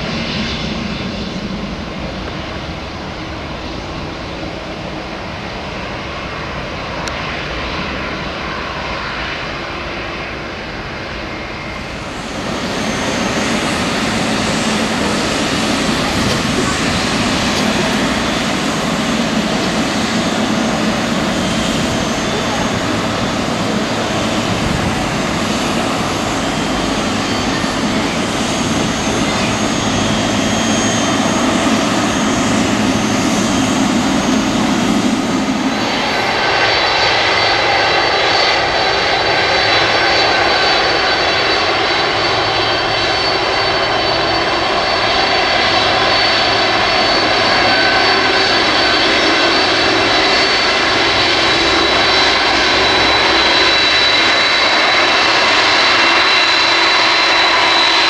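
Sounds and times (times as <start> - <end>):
high jet engine whine: 0.0 - 58.0
jet engines taxiing: 0.0 - 58.0.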